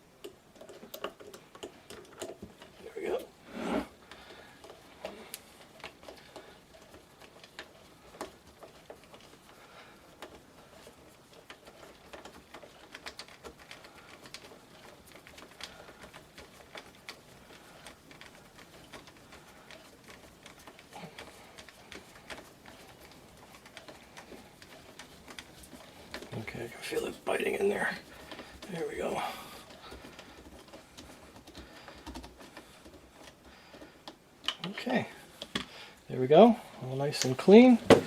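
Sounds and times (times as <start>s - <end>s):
tool clicking and scraping rubber: 0.0s - 38.0s.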